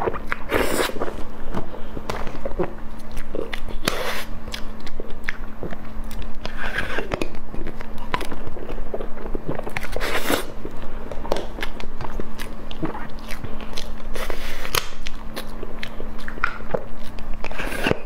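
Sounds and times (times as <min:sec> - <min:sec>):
chewing soft dessert: 0:00.0 - 0:18.0
faint steady hum: 0:00.0 - 0:18.0.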